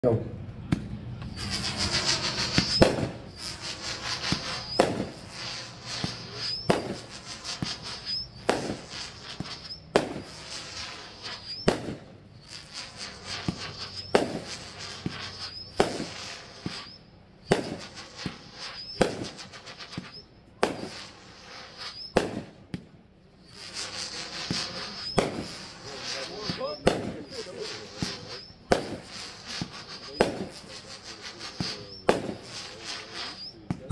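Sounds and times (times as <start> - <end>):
firework shots screeching and banging: 0.0 - 33.9.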